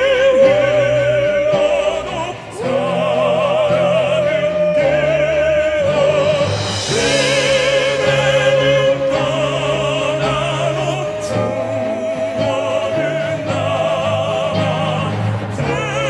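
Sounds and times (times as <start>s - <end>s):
instrumental accompaniment: 0.0s - 16.0s
male vocal quartet singing: 0.0s - 16.0s.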